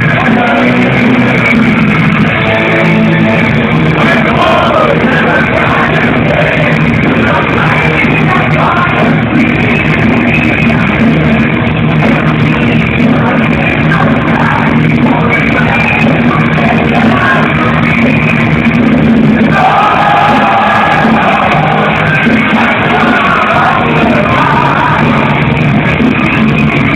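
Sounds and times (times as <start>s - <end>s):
metal band playing live: 0.0s - 26.9s.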